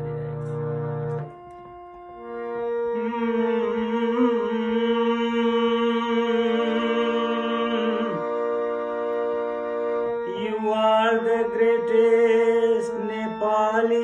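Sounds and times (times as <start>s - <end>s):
harmonium chords: 0.0s - 14.0s.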